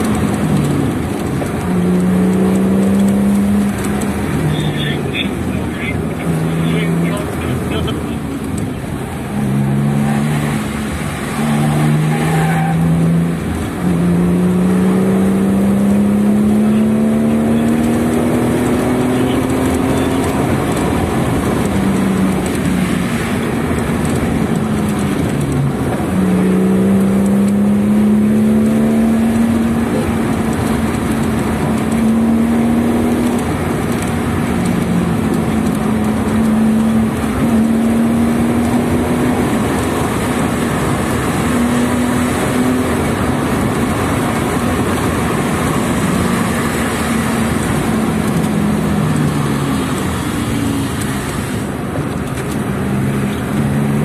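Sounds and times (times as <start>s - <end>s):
car engine revving from cabin: 0.0s - 54.0s
road and wind noise: 0.0s - 54.0s.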